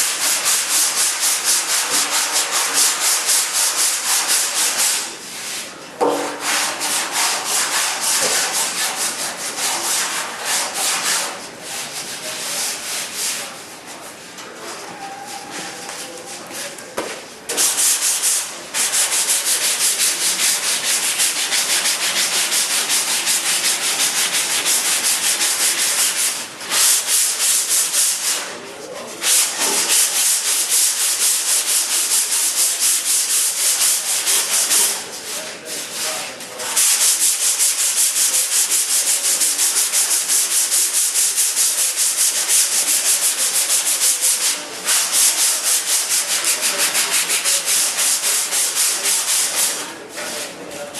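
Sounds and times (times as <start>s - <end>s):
sandpaper rubbing by hand: 0.0s - 5.7s, 6.4s - 13.6s, 17.5s - 28.5s, 29.2s - 50.8s.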